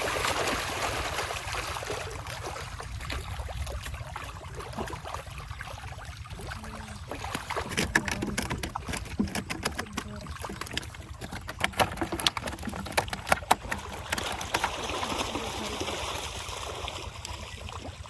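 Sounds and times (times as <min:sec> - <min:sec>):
fish splashing in water: 0:00.0 - 0:18.0.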